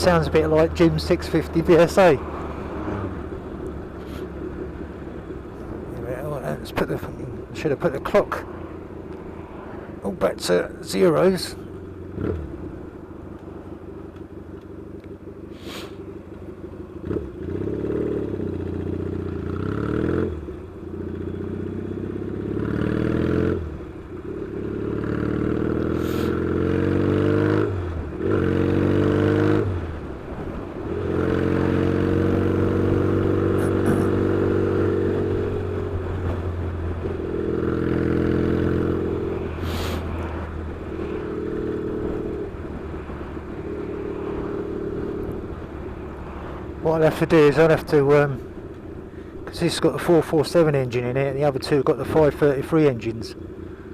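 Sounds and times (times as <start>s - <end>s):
motorcycle engine accelerating: 10.5s - 53.9s.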